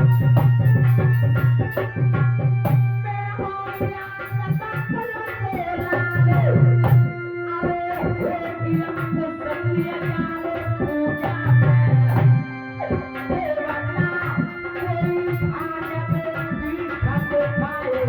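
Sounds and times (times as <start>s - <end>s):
sustained melody line: 0.0s - 18.0s
tabla drums playing: 0.0s - 18.0s.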